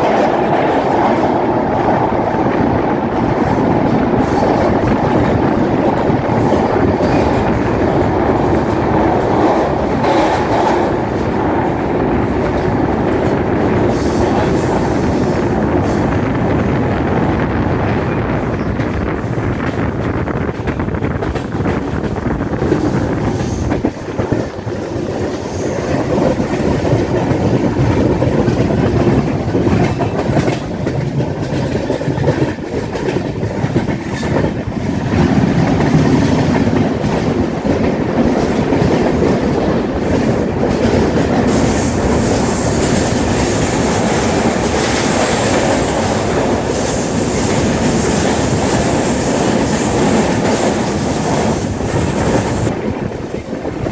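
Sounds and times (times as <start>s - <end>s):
train wheels clickety-clack: 0.0s - 53.9s.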